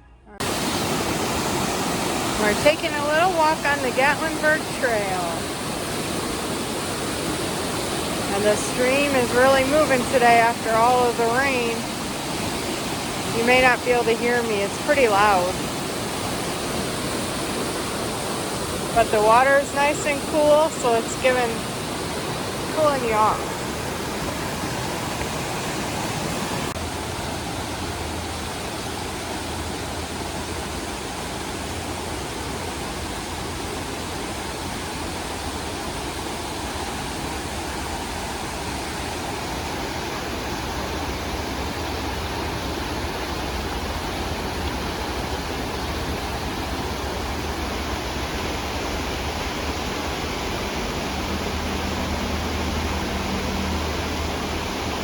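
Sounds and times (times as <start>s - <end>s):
stream rushing: 0.4s - 55.0s.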